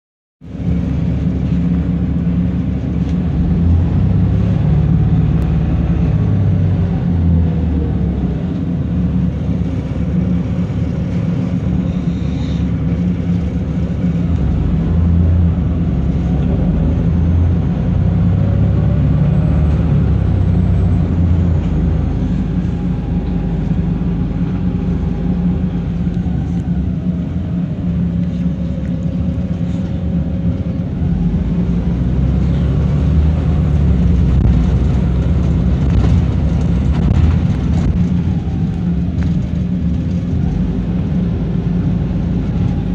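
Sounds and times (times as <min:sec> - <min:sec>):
bus engine rumble: 0:00.4 - 0:42.9
drivetrain whining: 0:00.5 - 0:42.9.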